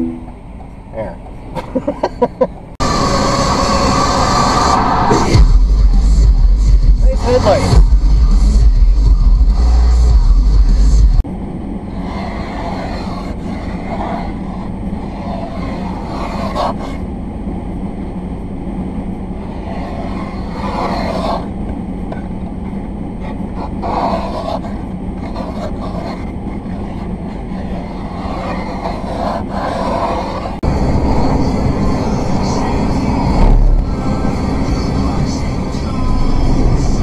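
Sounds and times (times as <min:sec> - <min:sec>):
car wash mechanical rumble: 0:00.0 - 0:37.0.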